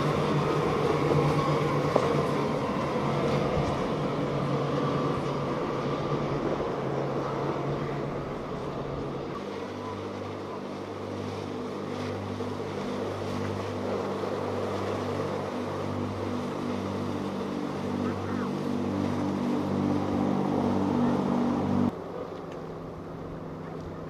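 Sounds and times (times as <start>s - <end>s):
motorboat engines running: 0.0s - 24.0s.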